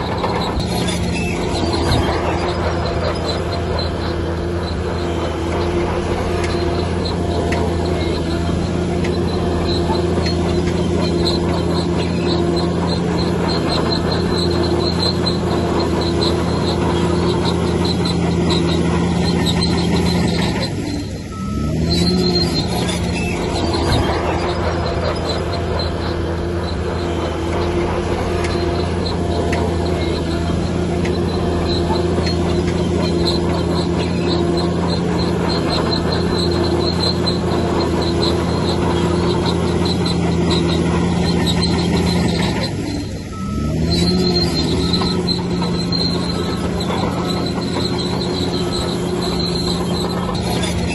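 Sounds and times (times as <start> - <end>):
bulldozer diesel engine humming: 0.0 - 50.9
steel tracks squeaking: 0.0 - 50.9.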